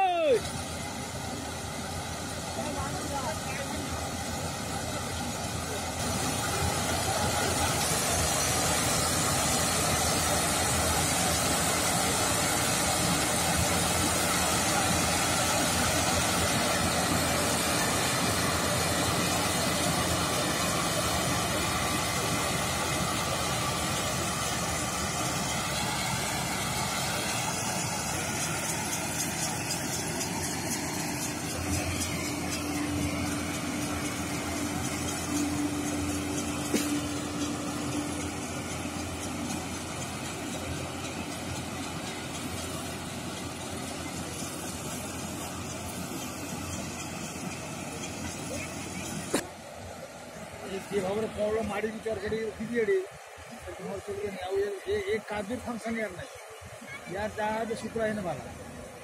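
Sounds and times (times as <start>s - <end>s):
combine harvester running: 0.0s - 59.0s
steady low hum: 0.5s - 59.0s.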